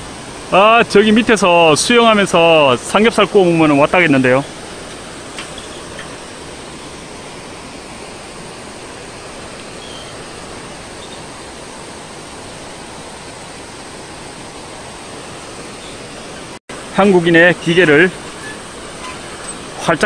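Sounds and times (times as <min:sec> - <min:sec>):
river flowing over rocks: 0:00.0 - 0:20.0
waterfall rushing: 0:00.0 - 0:20.0.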